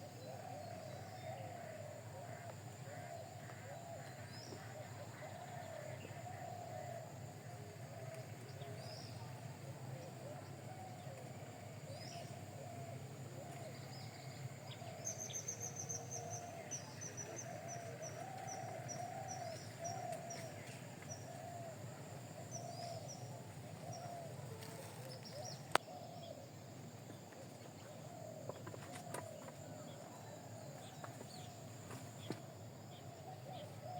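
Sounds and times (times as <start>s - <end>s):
lower wavering bird calls: 0.0s - 33.9s.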